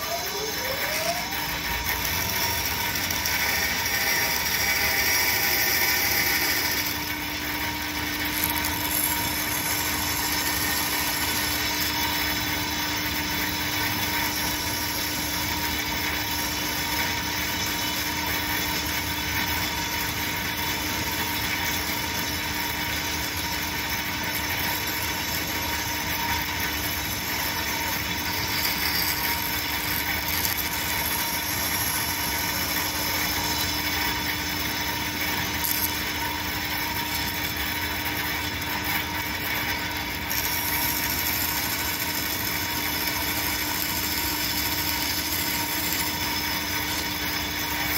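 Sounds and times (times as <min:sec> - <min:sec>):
band saw cutting wood: 0:00.0 - 0:47.9.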